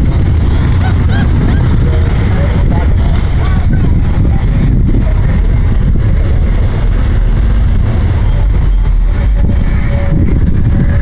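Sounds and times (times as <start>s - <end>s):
car engines in traffic: 0.0s - 11.0s.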